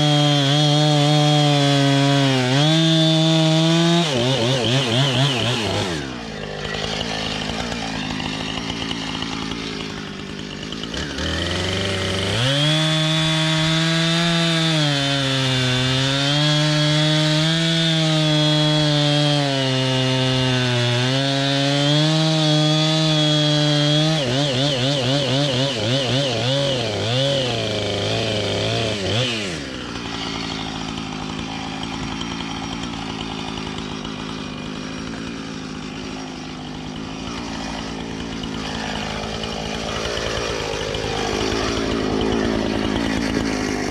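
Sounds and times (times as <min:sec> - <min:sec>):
chainsaw cutting log: 0:00.0 - 0:43.9.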